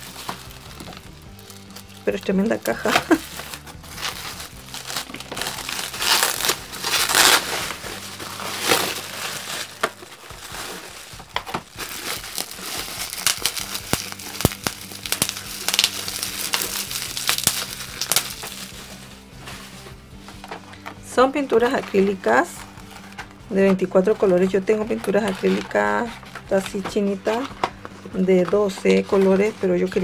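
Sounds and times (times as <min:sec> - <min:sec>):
bubble wrap crinkling: 0:00.0 - 0:30.0.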